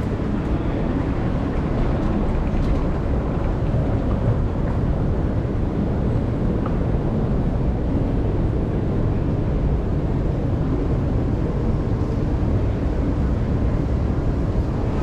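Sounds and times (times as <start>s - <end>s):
train rumbling in motion: 0.0s - 15.0s.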